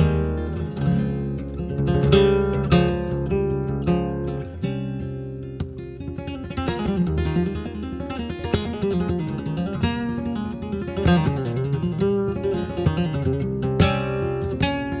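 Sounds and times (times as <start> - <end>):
flamenco guitar: 0.0 - 15.0.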